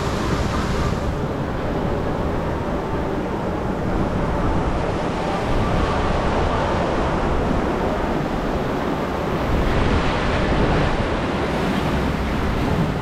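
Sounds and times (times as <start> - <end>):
water rushing: 0.0 - 13.0
wind rumbling on microphone: 0.0 - 13.0.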